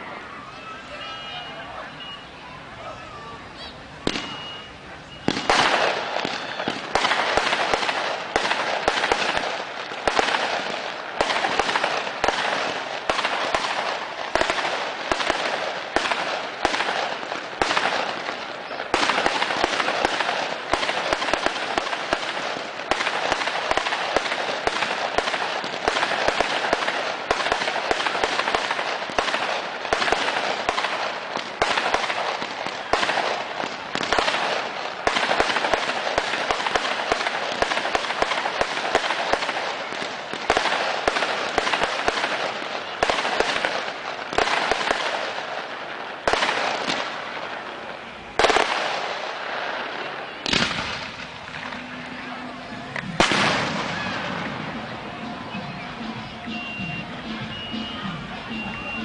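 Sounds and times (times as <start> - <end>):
fireworks bangs and crackling: 3.9 - 59.0.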